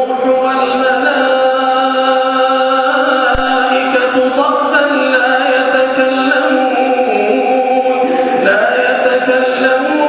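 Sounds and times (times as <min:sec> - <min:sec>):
man chanting melodically: 0:00.0 - 0:10.0.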